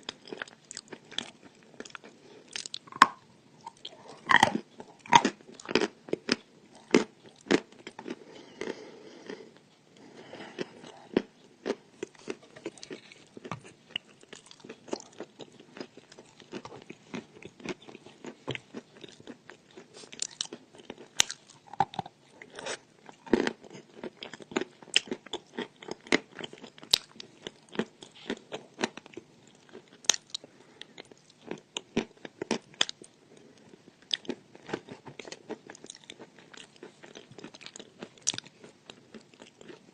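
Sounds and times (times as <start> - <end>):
person chewing chalk crunching: 0.0 - 39.9.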